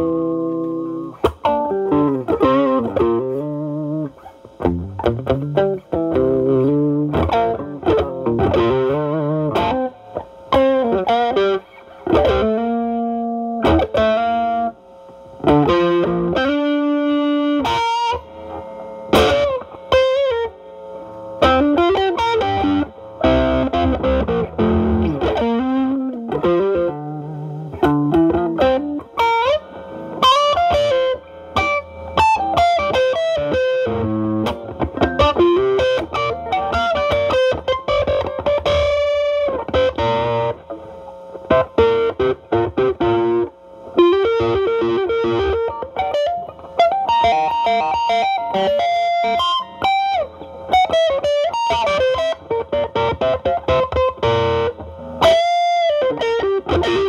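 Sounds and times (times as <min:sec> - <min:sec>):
overdriven electric guitar blues lead: 0:00.0 - 0:57.0.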